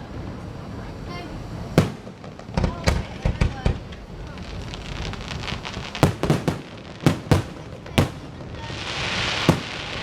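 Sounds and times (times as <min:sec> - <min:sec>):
fireworks hissing crackle: 0:00.0 - 0:10.0
fireworks bangs: 0:00.1 - 0:10.0.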